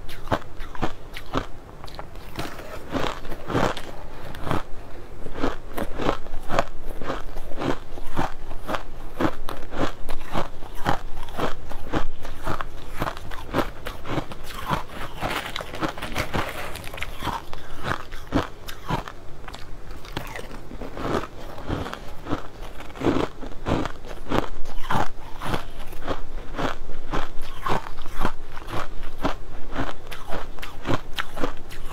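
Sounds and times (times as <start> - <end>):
crunching and chewing ice: 0.0 - 31.9.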